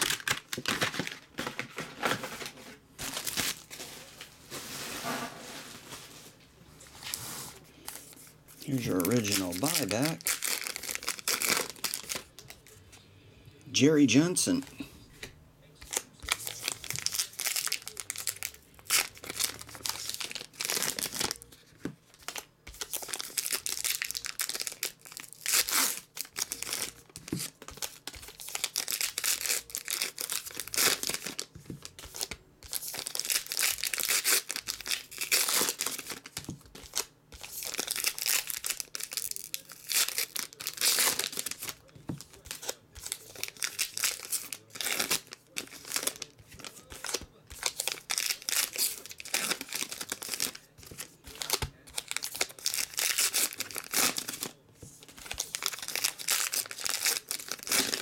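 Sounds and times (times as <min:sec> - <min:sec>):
wrappers torn and crinkled: 0:00.0 - 0:01.6, 0:03.0 - 0:03.8, 0:07.9 - 0:12.8, 0:15.9 - 0:58.0.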